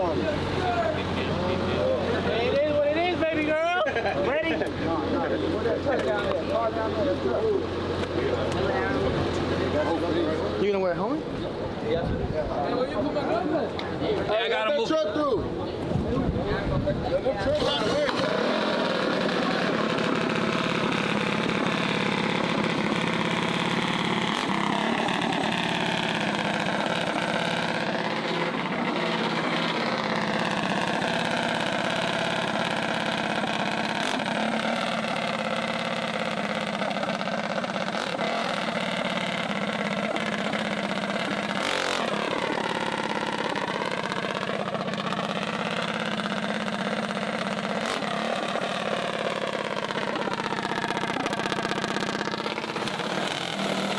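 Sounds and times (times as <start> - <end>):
mini bike engines revving: 0.0 - 11.2, 14.2 - 53.9.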